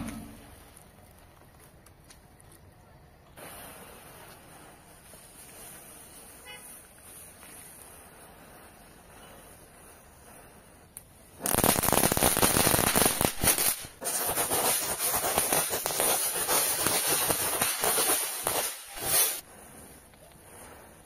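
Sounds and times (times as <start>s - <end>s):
firework crackling and spraying sparks: 3.4s - 21.0s.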